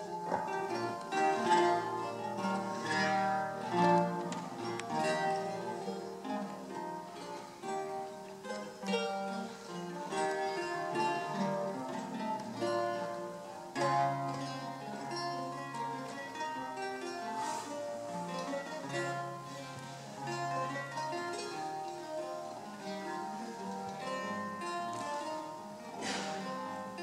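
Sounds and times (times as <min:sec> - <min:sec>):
lute played fingerstyle: 0:00.0 - 0:27.0.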